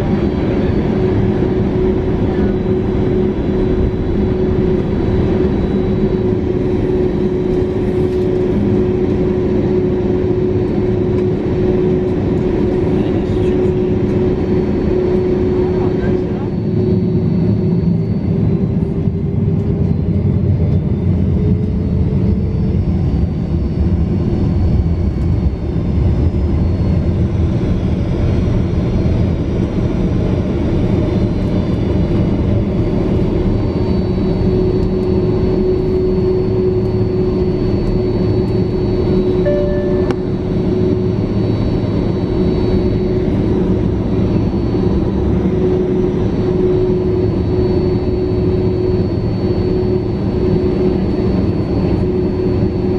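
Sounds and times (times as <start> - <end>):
jet engines heard from cabin: 0.0 - 52.9.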